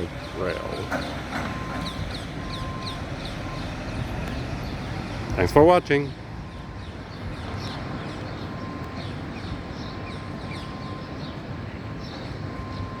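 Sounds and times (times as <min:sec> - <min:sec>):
birds chirping: 0:00.0 - 0:13.0
city traffic rumble: 0:00.0 - 0:13.0.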